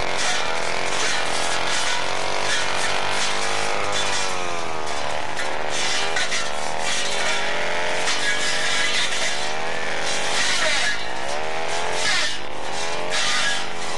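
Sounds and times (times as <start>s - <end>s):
brush cutter engine revving: 0.0s - 13.9s.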